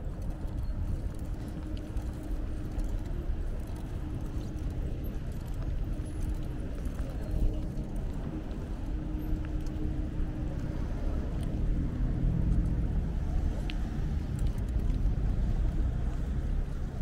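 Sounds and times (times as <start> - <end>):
bicycle tyres rumbling on cobblestones: 0.0 - 17.0.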